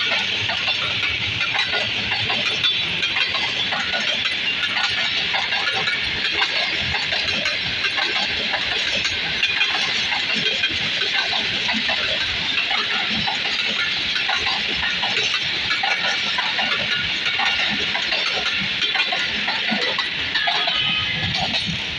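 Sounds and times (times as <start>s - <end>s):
train clatter and knocks: 0.0s - 21.9s
train wheels rumbling on rails: 0.0s - 21.9s.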